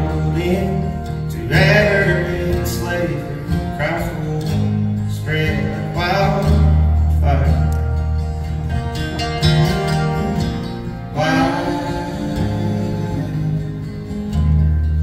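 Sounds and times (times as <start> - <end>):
acoustic guitars strumming: 0.0 - 15.0
low bass notes: 0.0 - 15.0.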